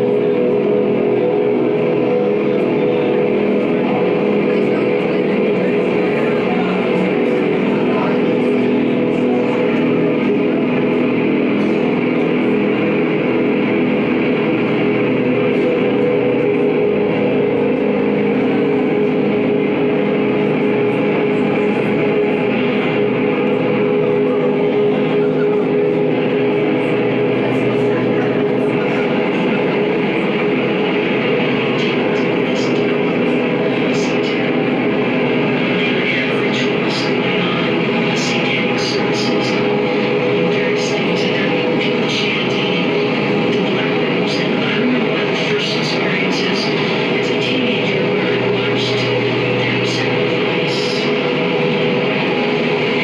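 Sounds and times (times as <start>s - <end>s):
distorted electric guitar: 0.0s - 53.0s.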